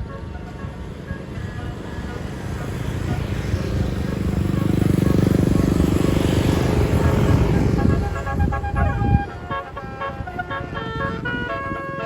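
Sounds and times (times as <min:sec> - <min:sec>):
diesel engine rumble: 0:00.0 - 0:12.0
multi-note bus horn tune: 0:00.0 - 0:12.0.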